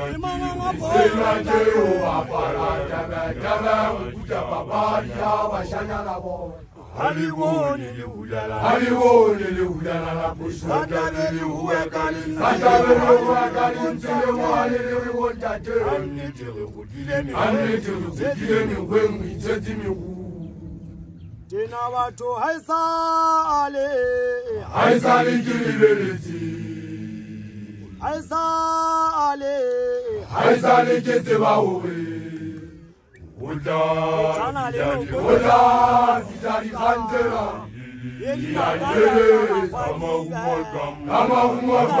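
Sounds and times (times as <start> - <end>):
man chanting sing-song: 0.0 - 20.4, 21.5 - 27.0, 27.6 - 32.2, 33.4 - 42.0.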